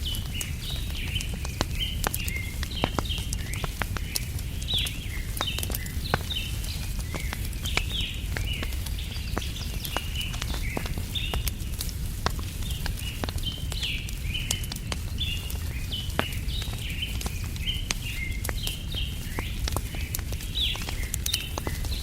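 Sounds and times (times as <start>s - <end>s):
small birds chirping: 0.0s - 22.0s
wood fire crackling: 0.0s - 22.0s.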